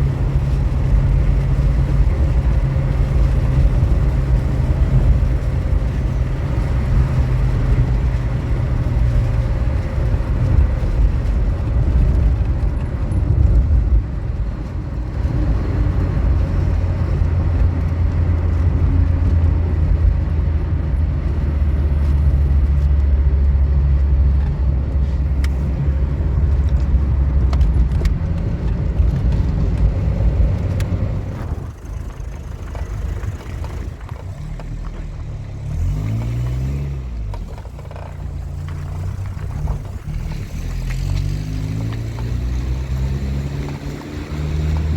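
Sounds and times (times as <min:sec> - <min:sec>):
vehicle engine and road rumble: 0:00.0 - 0:44.9.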